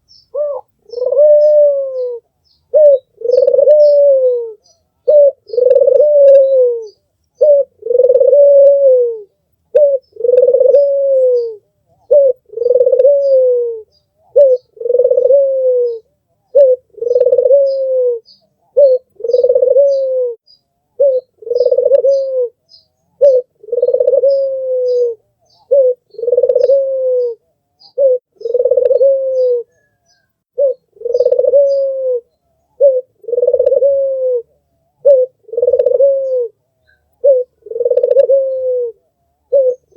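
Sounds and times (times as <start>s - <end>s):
faint small bird chirps: 0.0s - 8.0s, 9.2s - 33.9s, 34.6s - 39.9s
dove cooing: 0.0s - 20.4s, 21.0s - 39.9s.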